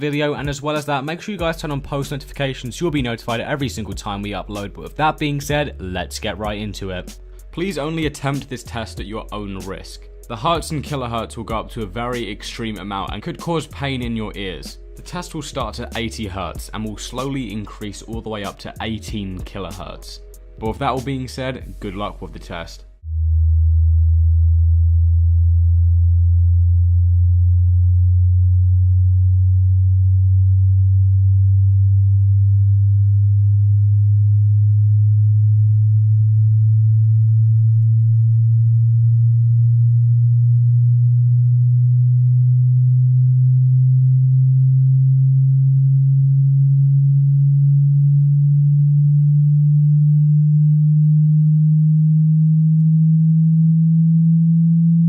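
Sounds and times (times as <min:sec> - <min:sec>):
rising sine-wave test tone: 0:01.6 - 0:55.0.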